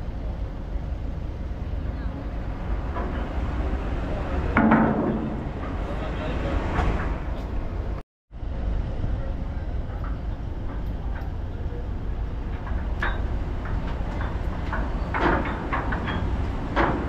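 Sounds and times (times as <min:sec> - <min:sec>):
ferry engines rumbling: 0:00.0 - 0:17.0.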